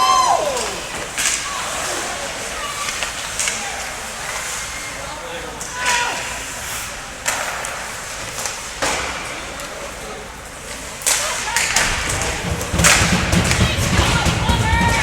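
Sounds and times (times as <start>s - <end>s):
skates scraping ice: 0.1s - 15.0s
hockey sticks hitting puck: 0.5s - 10.0s, 10.7s - 15.0s.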